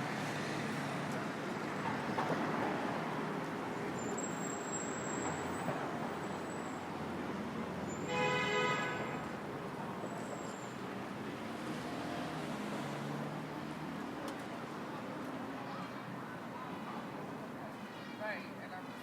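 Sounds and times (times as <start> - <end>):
passing cars: 0.0 - 17.6.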